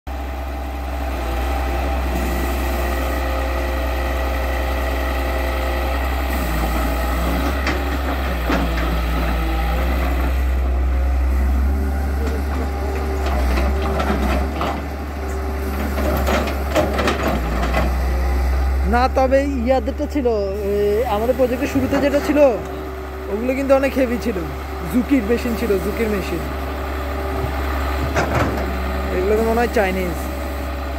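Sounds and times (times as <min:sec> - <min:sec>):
excavator diesel engine under load: 0:00.1 - 0:30.9.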